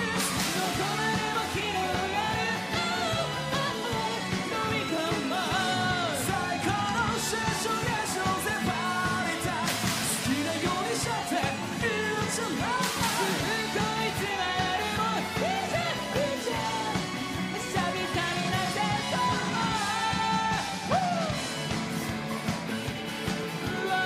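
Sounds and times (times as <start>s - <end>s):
person singing lead vocal: 0.0s - 21.8s, 23.4s - 24.0s
drum kit: 0.0s - 24.0s
electric guitars: 0.0s - 24.0s.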